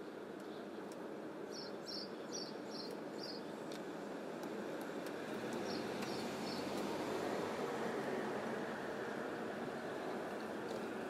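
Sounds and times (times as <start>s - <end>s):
distant city traffic: 0.1s - 11.0s.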